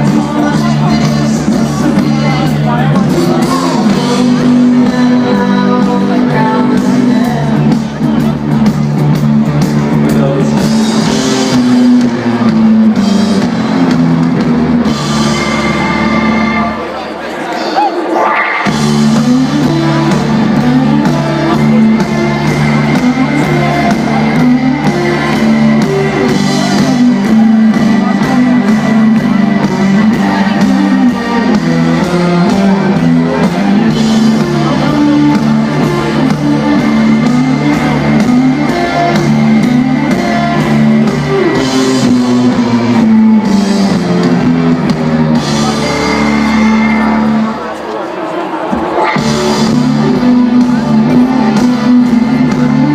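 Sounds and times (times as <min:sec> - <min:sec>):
low repeating guitar riff: 0:00.0 - 0:17.0, 0:18.3 - 0:47.9, 0:48.9 - 0:52.9
live rock band playing: 0:00.0 - 0:17.2, 0:18.0 - 0:52.9
drums: 0:00.0 - 0:52.9.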